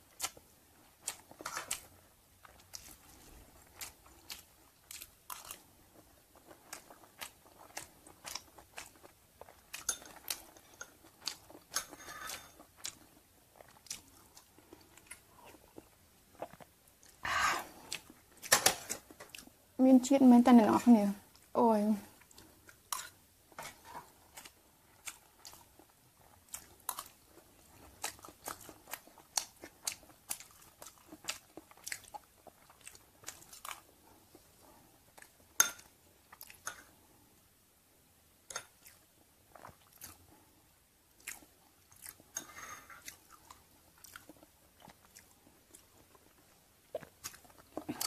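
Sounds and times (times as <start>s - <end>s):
chewing and crunching: 0.0s - 19.6s, 22.1s - 37.1s, 38.5s - 48.0s.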